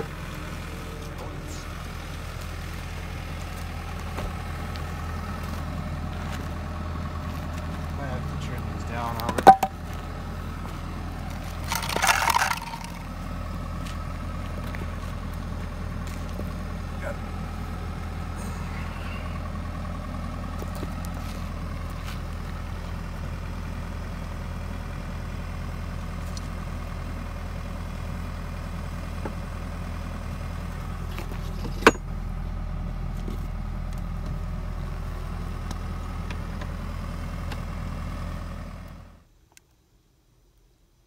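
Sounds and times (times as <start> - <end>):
engine running: 0.0 - 39.3.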